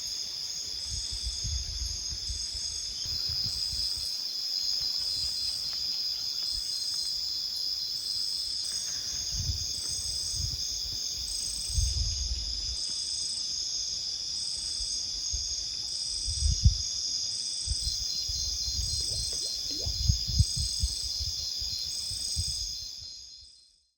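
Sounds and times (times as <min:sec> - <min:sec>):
insect chirping in pulses: 0:00.0 - 0:23.8
high-pitched insect trill: 0:00.0 - 0:23.9.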